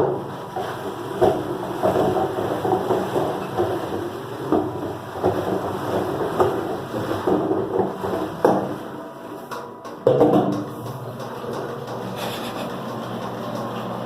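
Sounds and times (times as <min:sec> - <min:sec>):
knocks and clatter: 0:00.0 - 0:08.9, 0:09.5 - 0:14.0
washing machine running: 0:00.0 - 0:14.0.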